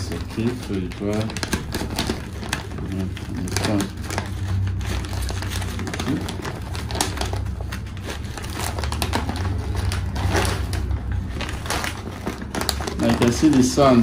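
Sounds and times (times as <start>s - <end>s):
stiff fabric crinkling: 0.0s - 14.0s.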